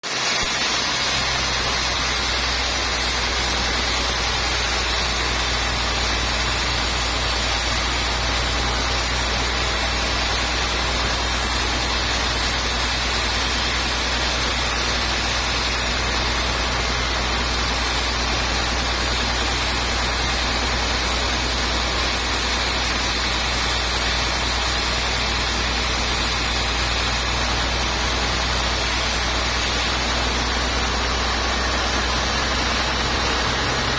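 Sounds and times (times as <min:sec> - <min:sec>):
sawmill machinery humming: 0:00.0 - 0:33.9.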